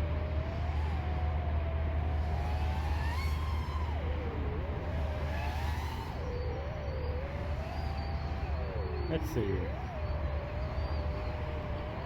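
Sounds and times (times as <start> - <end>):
quadcopter motors whining: 0.4 - 12.0.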